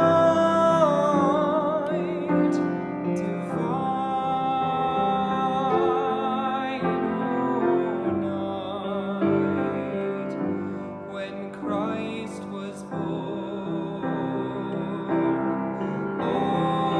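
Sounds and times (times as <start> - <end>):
classical singer with vibrato: 0.0 - 16.9
soft piano accompaniment: 0.0 - 16.9.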